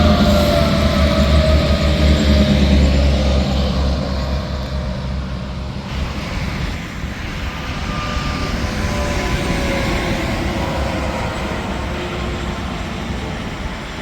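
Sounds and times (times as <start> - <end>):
heavy truck passing: 0.0 - 14.0
steady traffic noise: 0.0 - 14.0.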